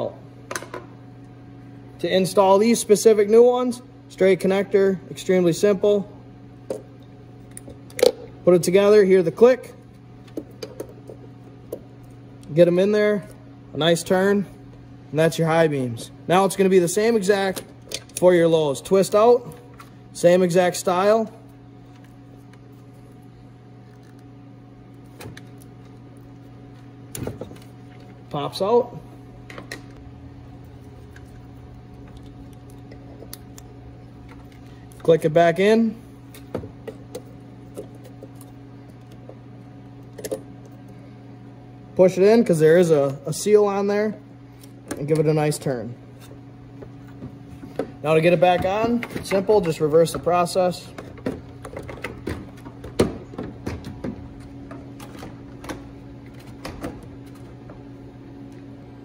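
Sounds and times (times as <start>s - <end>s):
low room hum: 0.0s - 59.0s.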